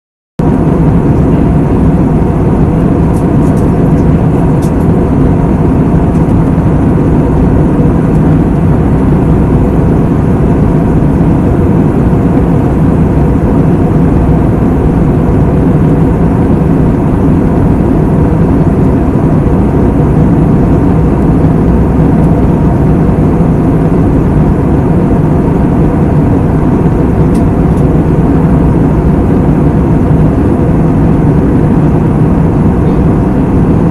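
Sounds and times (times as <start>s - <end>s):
faint tonal hum: 0.4s - 33.9s
jet engine drone: 0.4s - 33.9s
rushing air: 0.4s - 33.9s.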